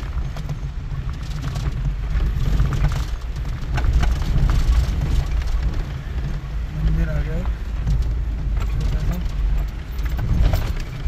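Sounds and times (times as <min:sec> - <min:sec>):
car rumble on gravel road: 0:00.0 - 0:11.0
stones crackling under tyres: 0:00.0 - 0:11.0.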